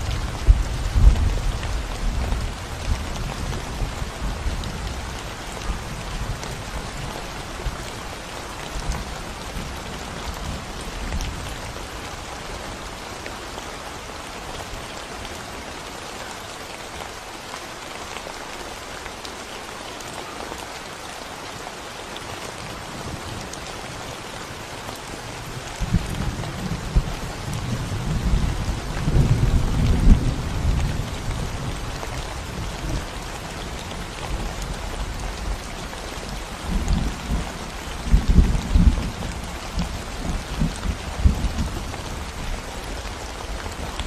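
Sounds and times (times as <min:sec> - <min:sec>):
rain falling on concrete: 0:00.0 - 0:44.0.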